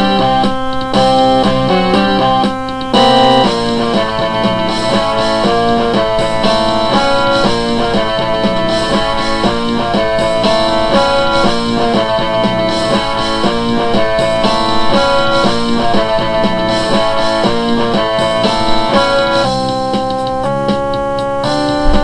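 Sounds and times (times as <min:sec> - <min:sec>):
funk instrumental music: 0:00.0 - 0:22.0
plucked guitar lines: 0:00.0 - 0:22.0.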